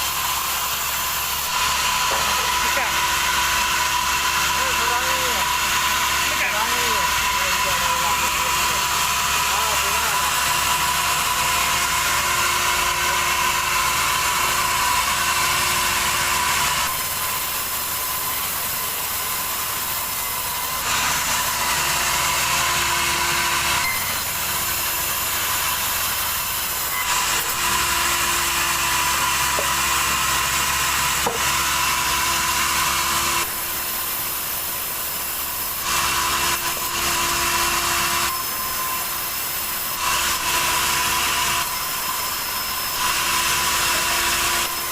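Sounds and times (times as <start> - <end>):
saw cutting through log: 0.0 - 44.9.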